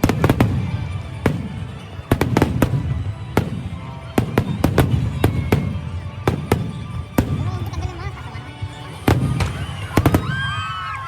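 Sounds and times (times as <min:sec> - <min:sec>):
fireworks bangs: 0:00.0 - 0:07.8, 0:08.9 - 0:11.0
low rumble of fireworks barrage: 0:00.0 - 0:11.0.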